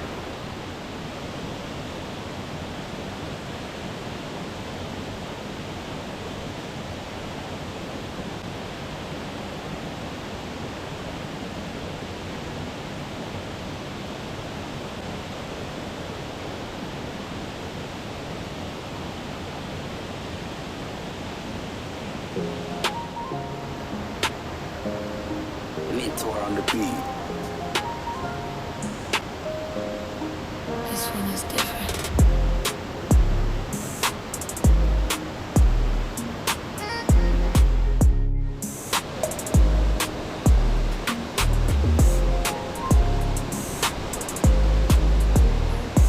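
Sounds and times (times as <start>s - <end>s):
waterfall rushing: 0.0s - 37.9s, 38.6s - 46.0s.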